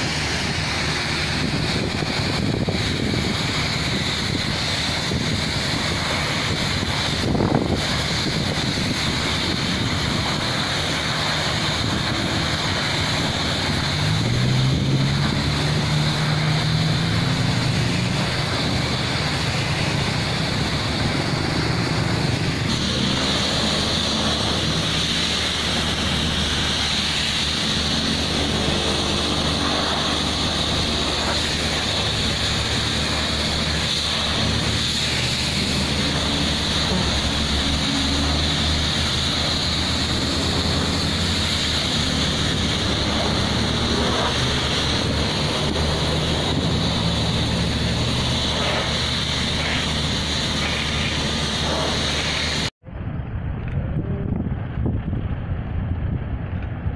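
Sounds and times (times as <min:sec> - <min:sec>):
compressed air hissing: 0:00.0 - 0:52.7
air compressor engine running: 0:00.0 - 0:52.8.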